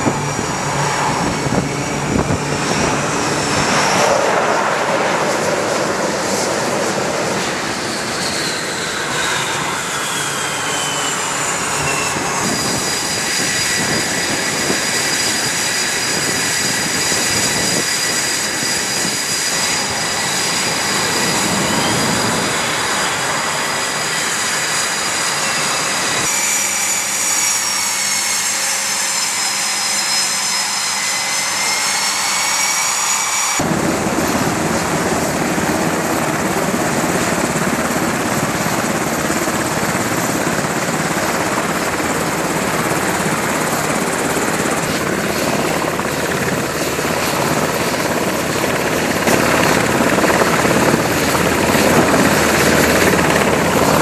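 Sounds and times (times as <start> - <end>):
high jet engine whine: 0.0 - 54.0
jet engine roar: 0.0 - 54.0.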